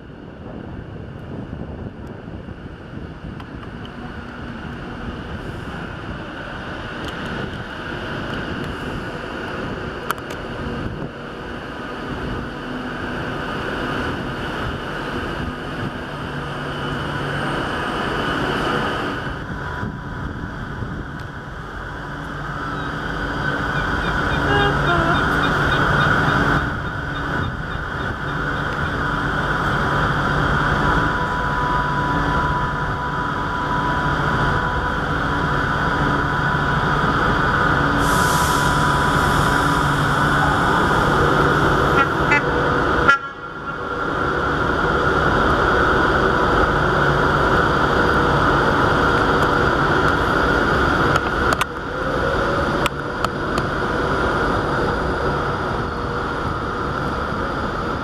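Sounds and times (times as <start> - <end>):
diesel train engine humming: 0.0 - 58.0.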